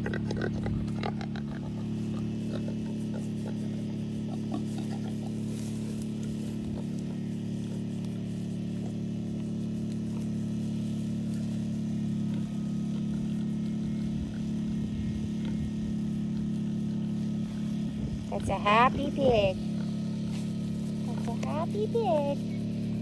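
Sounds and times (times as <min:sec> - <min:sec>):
faint ticks and rustles: 0:00.0 - 0:23.0
low mechanical hum: 0:00.0 - 0:23.0.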